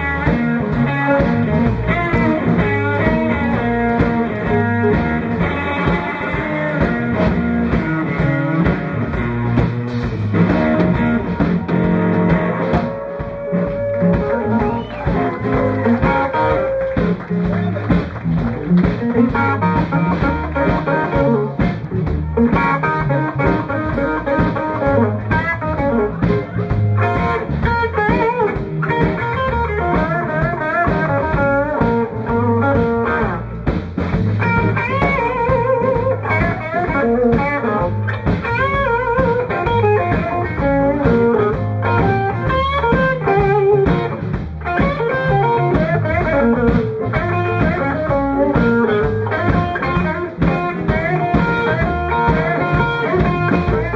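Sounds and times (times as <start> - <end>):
drum kit: 0.0 - 53.9
electric bass: 0.0 - 53.9
electric guitar lead: 0.0 - 53.9.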